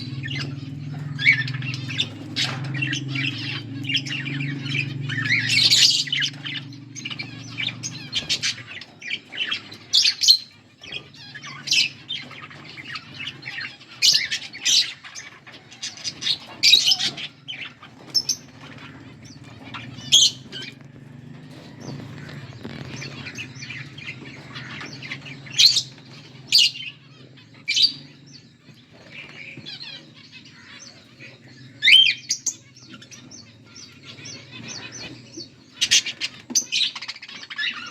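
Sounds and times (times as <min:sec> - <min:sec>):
budgerigars chirping and chattering: 0:00.0 - 0:37.9
steady low hum: 0:00.0 - 0:37.9.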